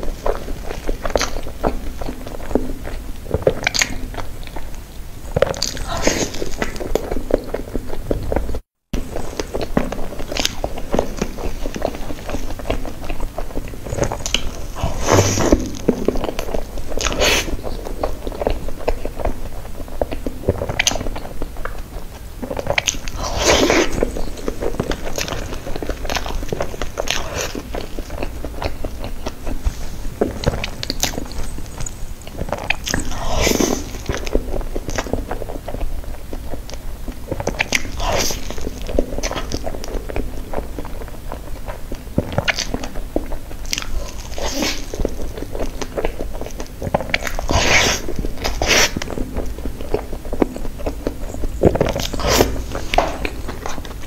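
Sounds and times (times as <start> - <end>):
mouth clicks: 0.0 - 54.0
wet chewing: 0.0 - 54.0.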